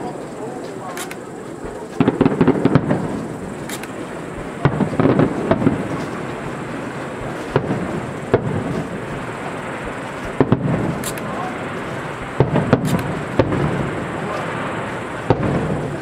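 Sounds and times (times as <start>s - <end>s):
firework shells bursting: 0.1s - 16.0s.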